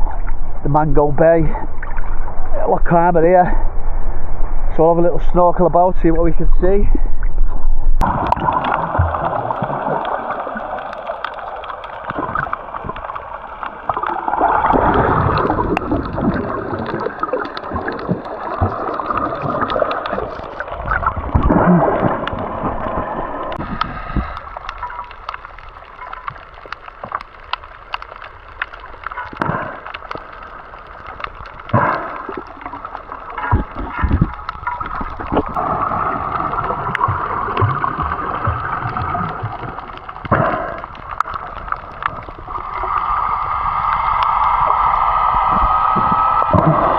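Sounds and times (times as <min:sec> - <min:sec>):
muffled underwater gurgling: 0:08.0 - 0:46.9.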